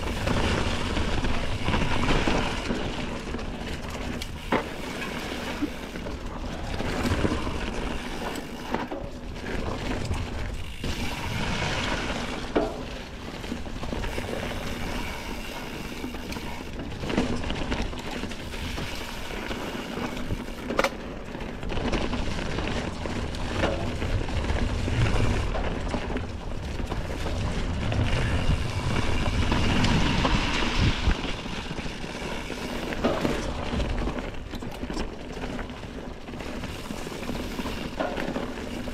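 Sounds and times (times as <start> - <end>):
bike knocks and rattles: 0.0 - 38.9
bike tyres rolling on dirt: 0.0 - 38.9.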